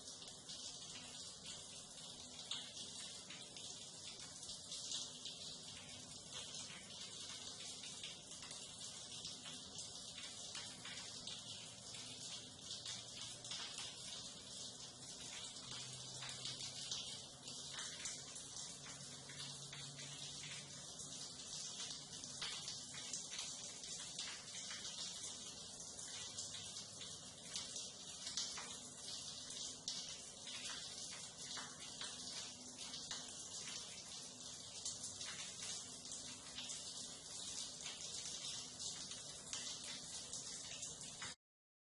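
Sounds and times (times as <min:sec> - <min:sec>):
water running through drain: 0:00.0 - 0:41.4.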